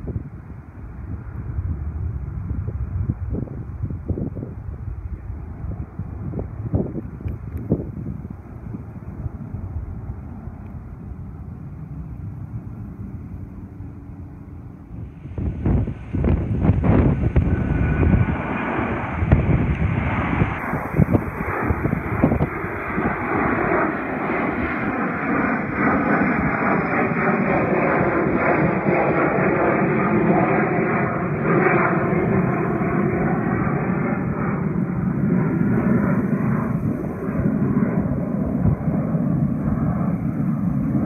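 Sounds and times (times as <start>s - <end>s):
jet engines climbing: 0.0s - 41.0s.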